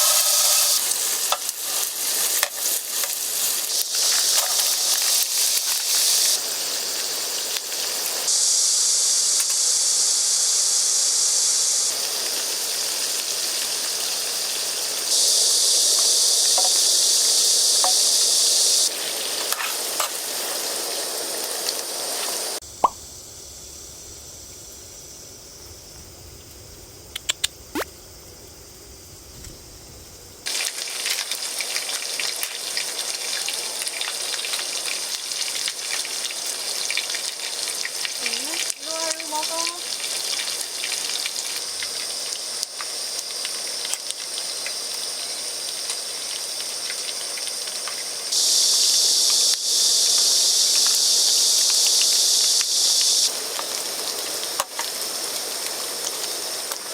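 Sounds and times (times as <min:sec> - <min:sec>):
steady hissing noise: 0:00.0 - 0:56.9.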